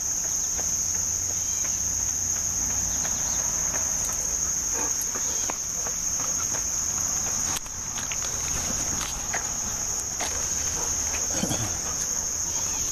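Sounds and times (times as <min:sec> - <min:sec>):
insects trilling: 0:00.0 - 0:12.9.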